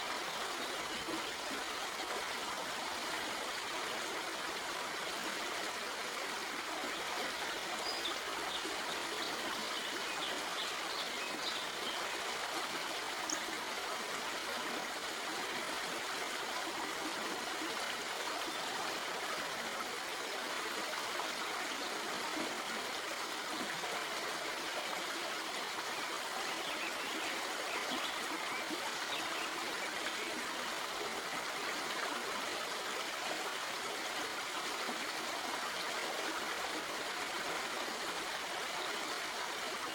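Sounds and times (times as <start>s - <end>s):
stream flowing over rocks: 0.0s - 39.9s
water trickles and splashes: 0.0s - 39.9s.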